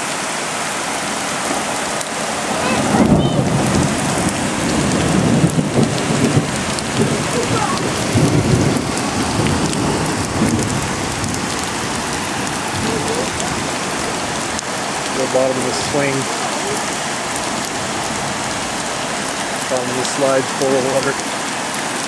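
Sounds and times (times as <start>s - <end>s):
floodwater rushing: 0.0s - 22.0s
low rumbles: 1.5s - 21.2s.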